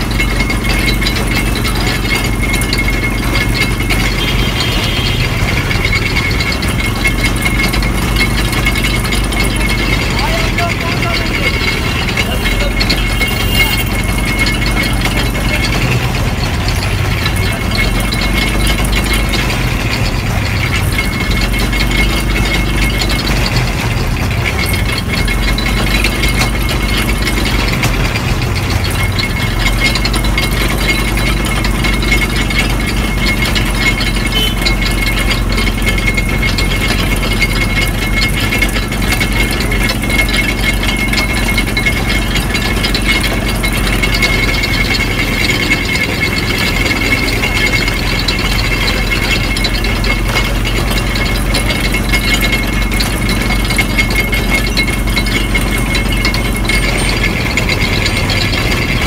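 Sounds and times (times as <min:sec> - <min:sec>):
juice crusher gears clattering: 0:00.0 - 0:59.0.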